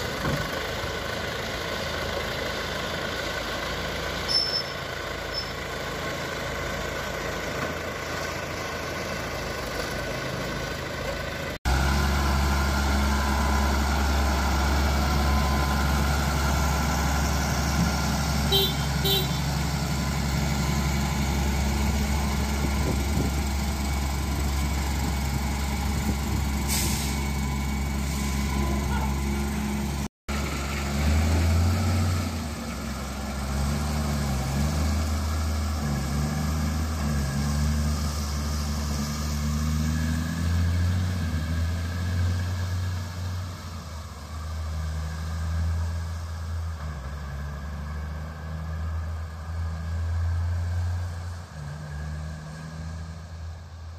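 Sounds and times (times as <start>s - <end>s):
tractor diesel engine: 0.0s - 53.9s.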